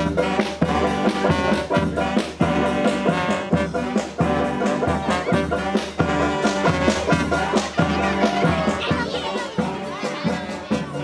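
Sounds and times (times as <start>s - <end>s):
brass band horn lines: 0.0s - 11.0s
driving drum beat: 0.0s - 11.0s.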